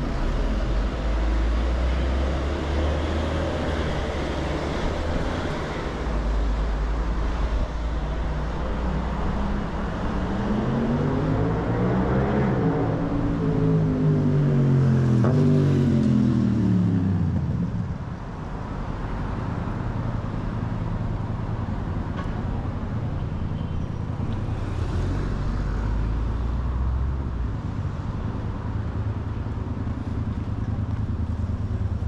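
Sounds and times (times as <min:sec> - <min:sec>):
heavy vehicle engine: 0:00.0 - 0:32.0
passing traffic: 0:00.0 - 0:32.0.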